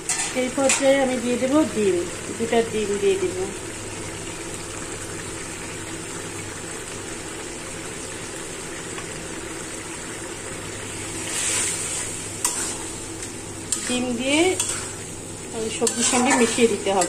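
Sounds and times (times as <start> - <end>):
curry bubbling and hissing: 0.0 - 17.0.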